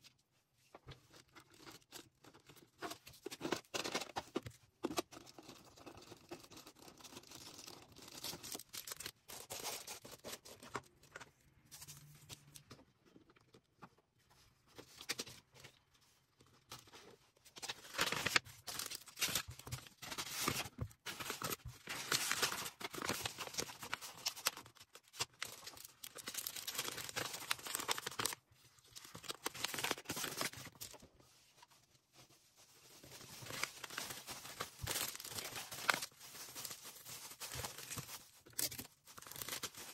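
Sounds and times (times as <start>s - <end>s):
packaging rustling and tearing: 1.1s - 11.2s, 16.7s - 31.7s, 32.5s - 39.9s.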